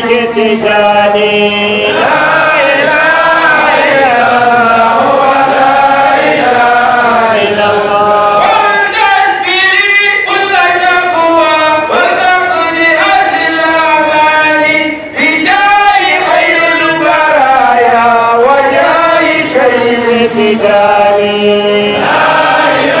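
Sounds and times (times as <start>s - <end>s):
man chanting into a microphone: 0.0s - 23.0s.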